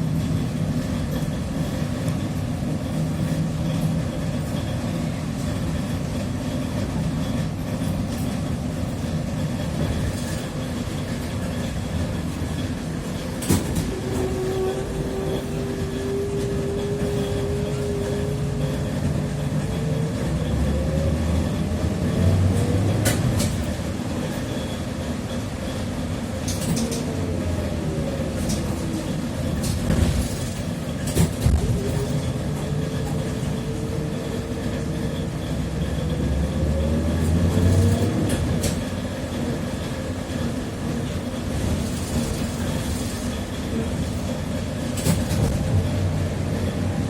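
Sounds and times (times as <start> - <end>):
low rumble of motor and road: 0.0 - 47.0
trolleybus axle whining: 0.0 - 47.0.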